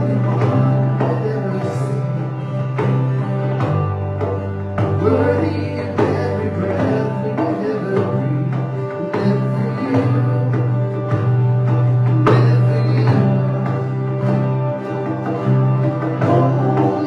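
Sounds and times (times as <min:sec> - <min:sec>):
acoustic guitars strumming: 0:00.0 - 0:17.0
box drum beat: 0:00.0 - 0:17.0
electric bass: 0:00.0 - 0:17.0
keyboard: 0:00.0 - 0:17.0.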